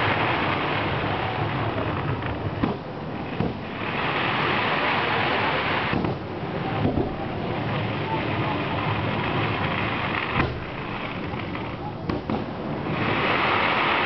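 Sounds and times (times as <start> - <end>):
fireworks crackling: 0.0 - 14.0
fireworks pops and thuds: 0.0 - 14.0.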